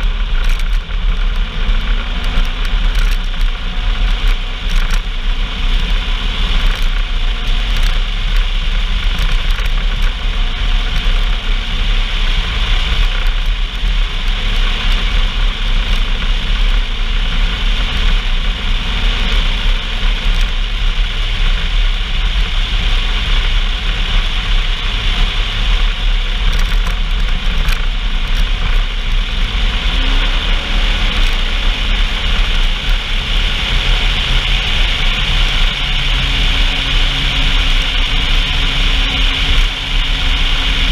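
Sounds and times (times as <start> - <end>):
constant rushing noise: 0.0 - 40.9
vehicle engine running: 0.0 - 40.9.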